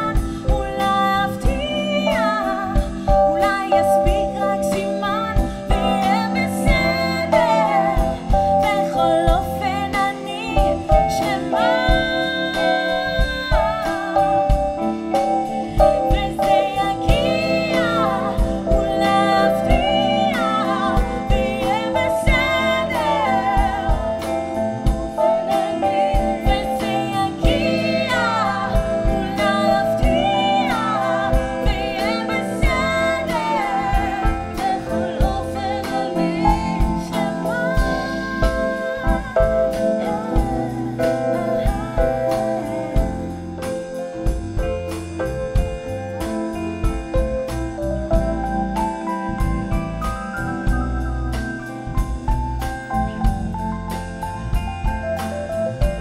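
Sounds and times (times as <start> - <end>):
woman singing: 0.0 - 47.3
drums: 0.0 - 56.0
electric guitar: 0.0 - 56.0
electric piano: 0.0 - 56.0.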